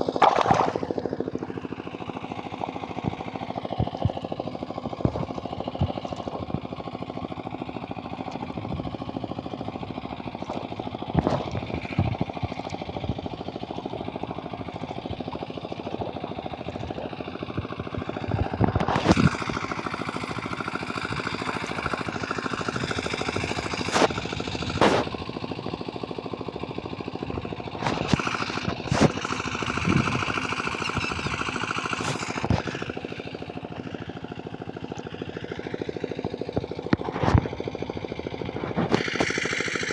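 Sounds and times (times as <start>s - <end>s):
small engine chugging: 0.0s - 39.9s.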